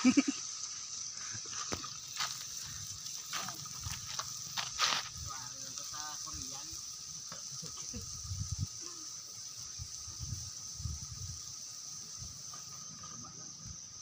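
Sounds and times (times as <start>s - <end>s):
chicken hissing in a wok: 0.0s - 14.0s
night insects droning: 0.0s - 14.0s.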